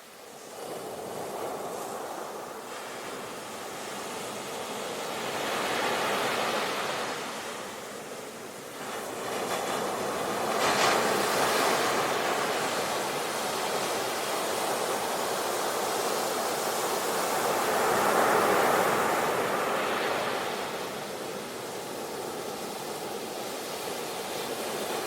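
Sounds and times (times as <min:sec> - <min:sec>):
sea waves washing on shore: 0:00.1 - 0:25.0.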